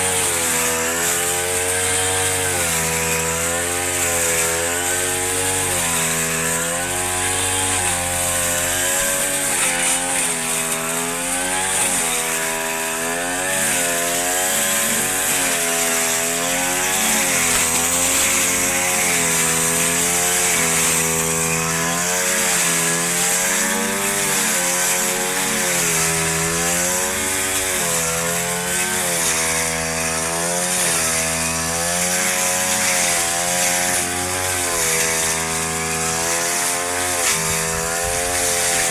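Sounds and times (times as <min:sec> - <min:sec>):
lawn mower engine cutting grass: 0:00.0 - 0:38.9.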